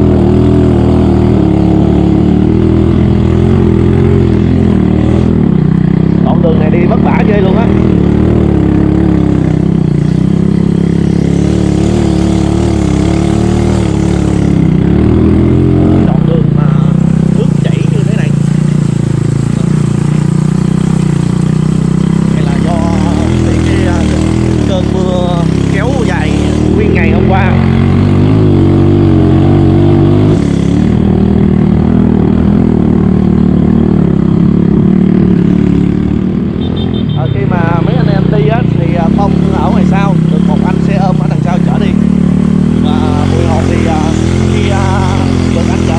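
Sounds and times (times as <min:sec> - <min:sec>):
motorcycle engine under load: 0:00.0 - 0:45.9.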